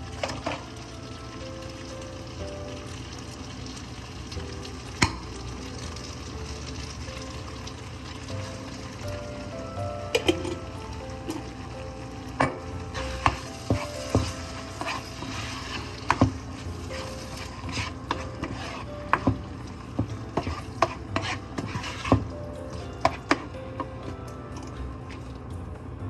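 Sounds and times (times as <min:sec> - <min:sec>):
utensil stirring and clinking cookware: 0:00.0 - 0:03.1, 0:03.7 - 0:25.7.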